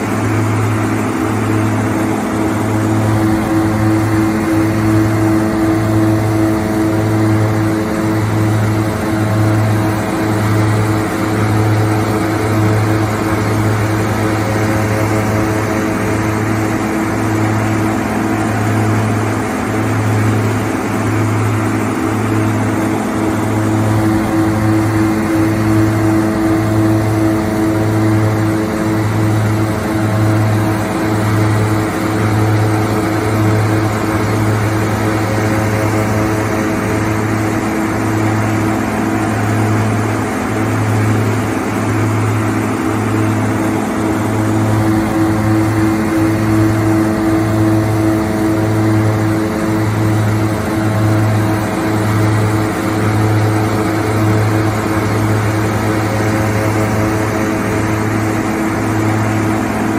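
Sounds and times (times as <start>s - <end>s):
dense mechanical machine noise: 0.0s - 59.9s
harvester engine hum: 0.0s - 59.9s.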